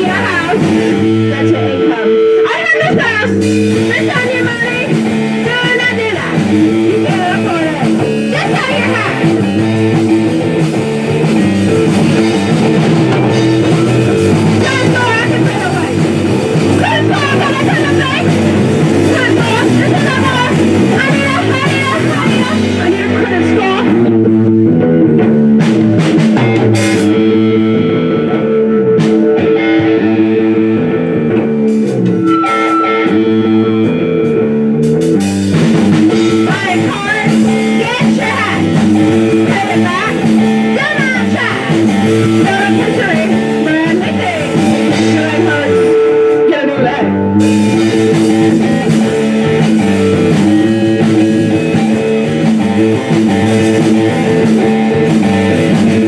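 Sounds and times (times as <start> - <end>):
bending guitar notes: 0.0 - 56.0
rock band playing: 0.0 - 56.0.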